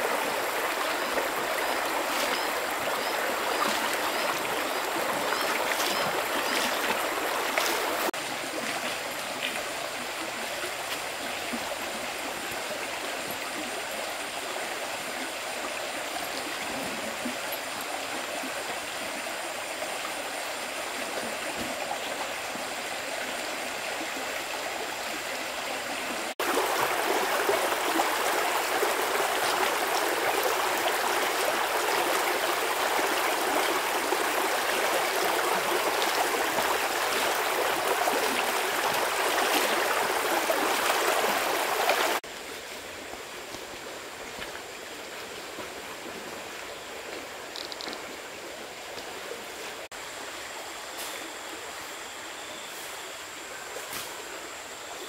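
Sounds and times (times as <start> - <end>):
rushing water: 0.0 - 52.4
stream flowing: 0.0 - 55.0.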